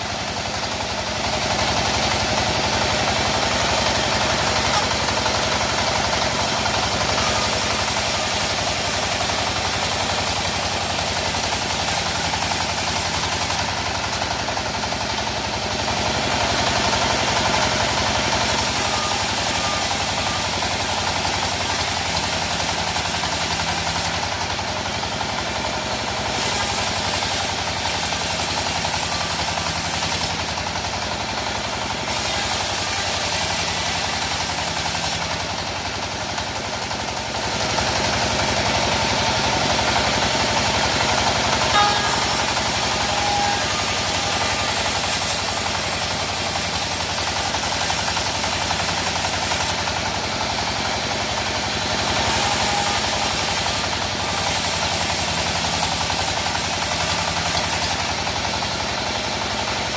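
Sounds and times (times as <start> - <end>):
saw engine running: 0.0 - 59.9.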